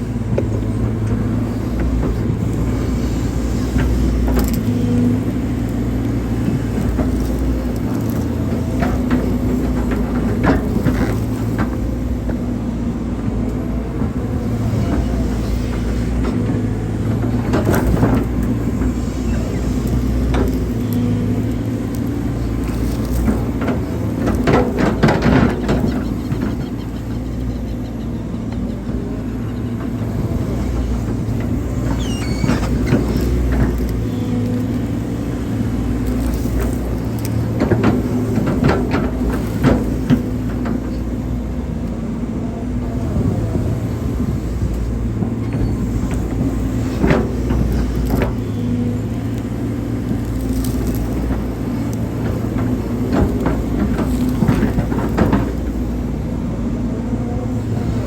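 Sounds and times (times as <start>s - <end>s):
excavator diesel engine: 0.0s - 58.0s
excavator knocks and clanks: 0.0s - 58.0s.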